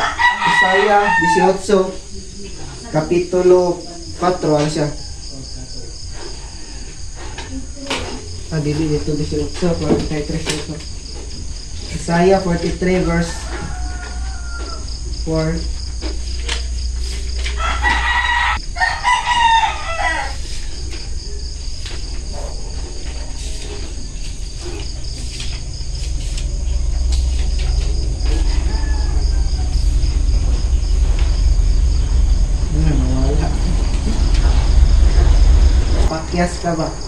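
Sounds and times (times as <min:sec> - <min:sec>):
rooster crowing: 0:00.0 - 0:07.2, 0:10.9 - 0:36.1
crickets chirring: 0:00.0 - 0:37.0.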